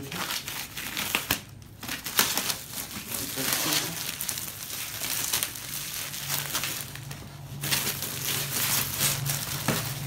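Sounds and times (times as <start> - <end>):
plastic film crinkling: 0.0 - 10.0.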